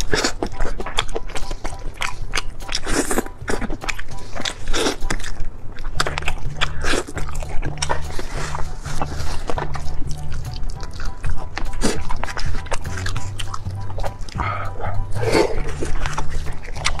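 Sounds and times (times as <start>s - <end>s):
close chewing and mouth smacks: 0.0s - 17.0s.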